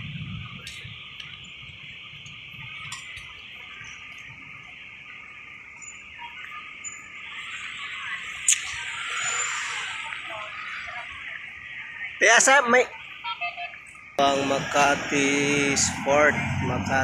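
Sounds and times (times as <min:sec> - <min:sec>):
distant traffic rumble: 0:00.0 - 0:17.0
steady high hiss: 0:00.4 - 0:13.2, 0:13.8 - 0:17.0.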